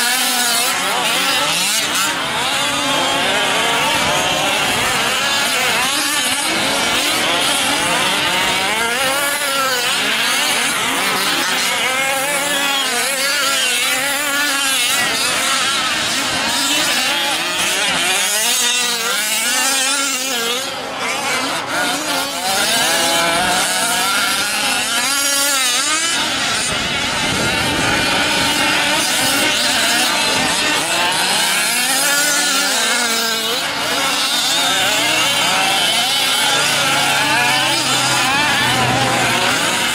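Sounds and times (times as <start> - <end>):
rc truck engines revving: 0.0 - 39.9.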